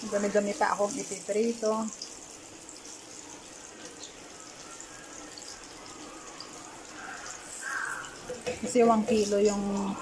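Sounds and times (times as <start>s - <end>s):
eggplant sizzling in hot oil: 0.0s - 10.0s.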